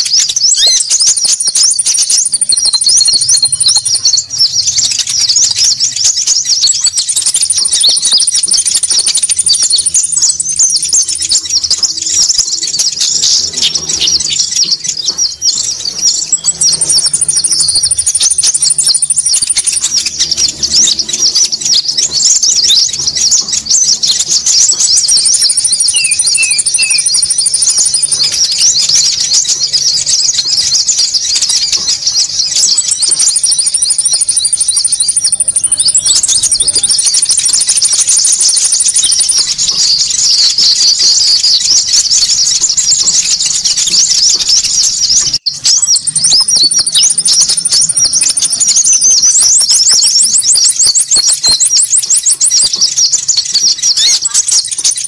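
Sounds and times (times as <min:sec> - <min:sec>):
rapid high bird chirps: 0:00.0 - 0:55.0
thin high bird trill: 0:00.0 - 0:55.0.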